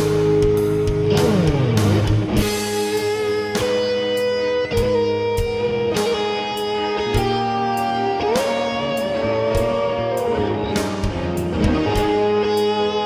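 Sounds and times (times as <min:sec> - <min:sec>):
steady beat: 0:00.0 - 0:12.8
electric guitar music: 0:00.0 - 0:13.0.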